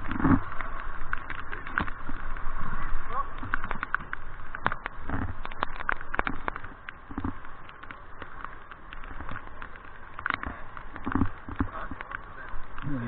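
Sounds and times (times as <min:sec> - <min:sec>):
light clicks and taps: 0:00.0 - 0:13.0
low river rumble: 0:00.0 - 0:13.0.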